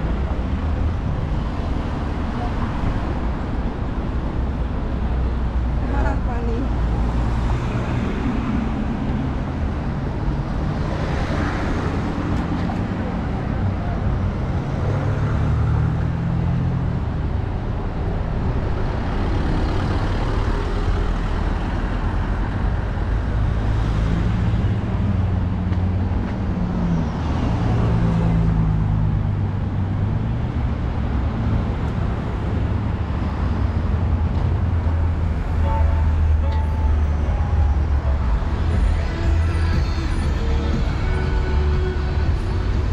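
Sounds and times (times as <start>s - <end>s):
cars passing: 0.0s - 42.9s
tyres rumbling on road: 0.0s - 42.9s.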